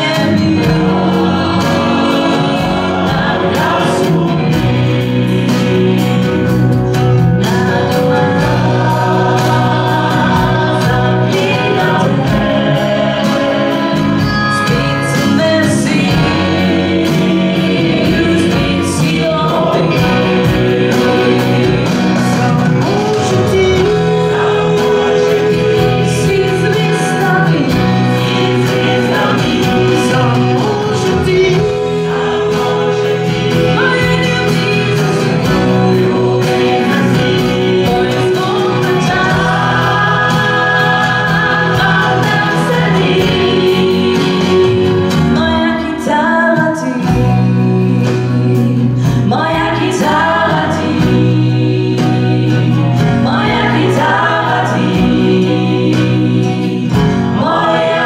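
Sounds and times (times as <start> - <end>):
acoustic guitars: 0.0 - 58.0
bass guitar: 0.0 - 58.0
drums: 0.0 - 58.0
electric guitar: 0.0 - 58.0
mixed choir singing: 0.0 - 58.0.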